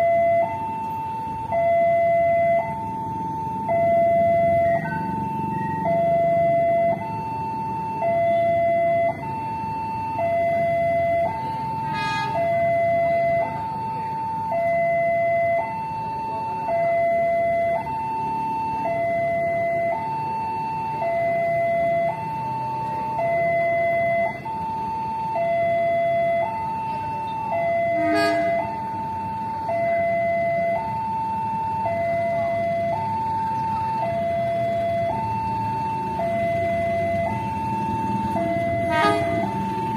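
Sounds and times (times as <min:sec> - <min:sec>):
level crossing alarm: 0:00.0 - 0:39.9.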